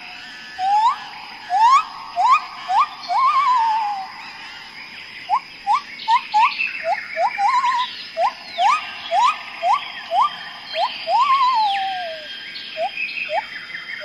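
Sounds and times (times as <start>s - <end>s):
faint high chirps: 0.0s - 14.0s
rising whistled calls: 0.0s - 14.0s.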